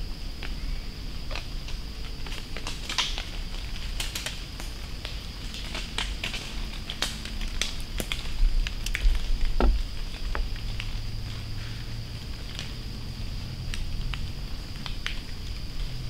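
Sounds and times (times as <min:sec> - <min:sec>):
acorns falling on dry leaves: 0:01.2 - 0:16.0.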